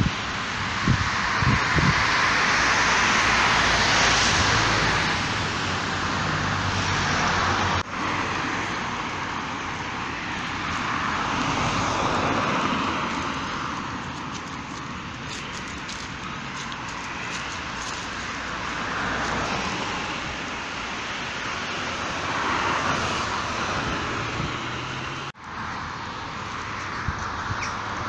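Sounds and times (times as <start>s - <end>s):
passing traffic rushing: 0.0s - 28.0s.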